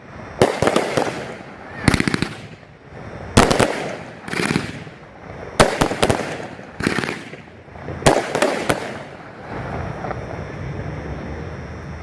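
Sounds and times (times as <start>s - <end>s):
crackling fizz of fireworks: 0.0s - 12.0s
fireworks bangs: 0.4s - 10.2s.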